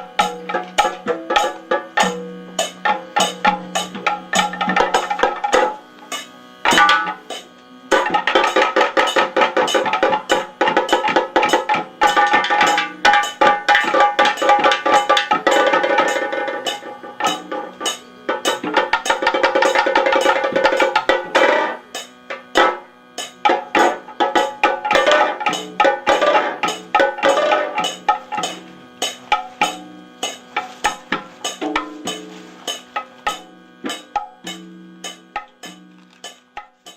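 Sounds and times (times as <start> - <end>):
rapid drum strokes: 0.0 - 36.9
ringing metallic percussion: 0.0 - 36.9.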